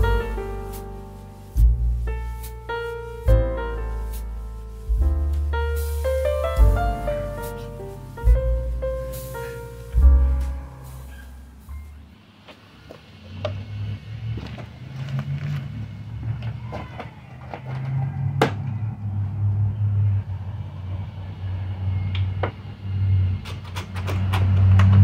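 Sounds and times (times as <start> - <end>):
steady low rumble: 0.0 - 16.4, 18.7 - 23.7.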